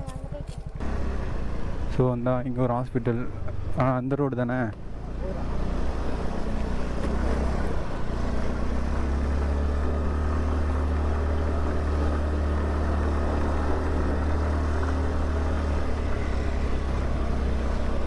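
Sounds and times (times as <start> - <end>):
motorcycle engine low rumble: 0.0 - 18.0.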